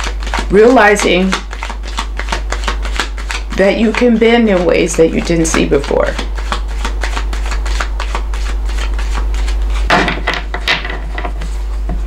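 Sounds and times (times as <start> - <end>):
cards being shuffled: 0.0 - 12.0
steady low hum: 0.0 - 12.0.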